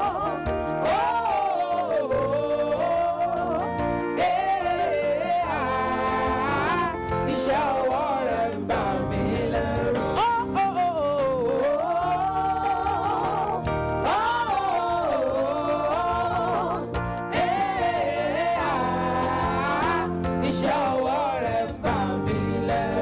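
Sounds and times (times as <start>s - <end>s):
band accompaniment: 0.0s - 23.0s
woman singing gospel: 0.0s - 23.0s.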